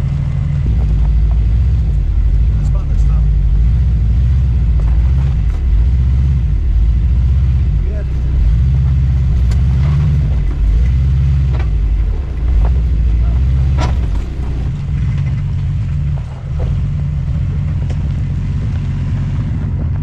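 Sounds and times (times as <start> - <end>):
knocks from rocks and chassis: 0.0 - 20.0
van engine low drone: 0.0 - 20.0.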